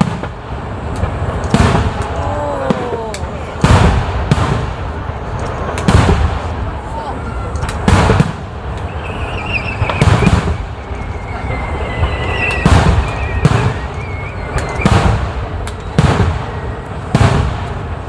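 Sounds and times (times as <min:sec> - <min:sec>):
firework crackle: 0:00.0 - 0:18.0
firework shells booming: 0:00.0 - 0:18.0.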